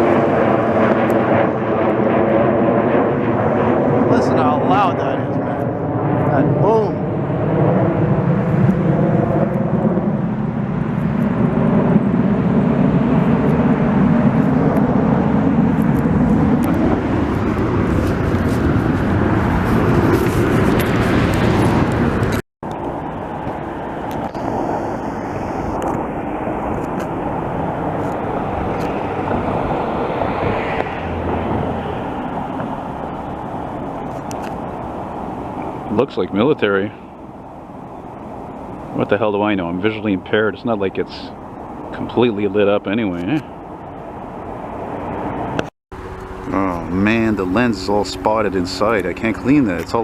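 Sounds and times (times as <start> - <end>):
jet aircraft roar overhead: 0.0 - 50.0.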